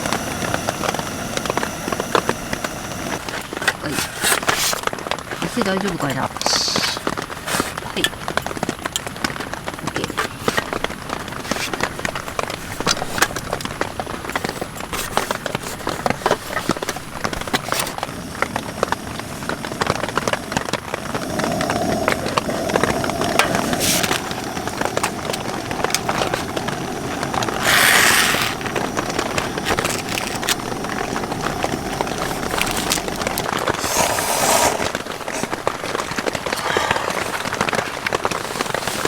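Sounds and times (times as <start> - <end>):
heavy rain on tent fabric: 0.0 - 39.0.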